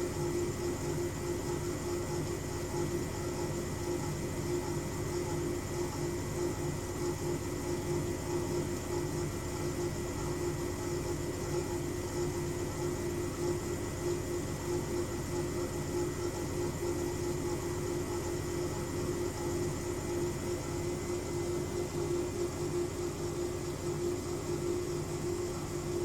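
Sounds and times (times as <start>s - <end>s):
washing machine spin cycle drone: 0.0s - 26.0s.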